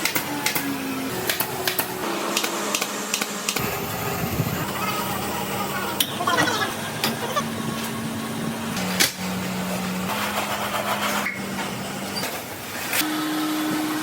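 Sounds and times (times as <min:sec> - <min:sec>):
workshop machinery humming: 0:00.0 - 0:14.0.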